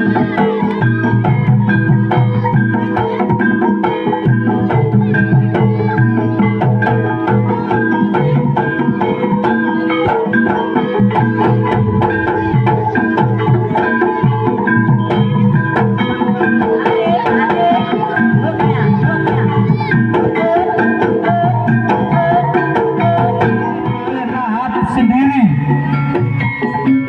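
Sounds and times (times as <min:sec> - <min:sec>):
gamelan metallic melody: 0:00.0 - 0:27.0
hand drums: 0:00.0 - 0:27.0.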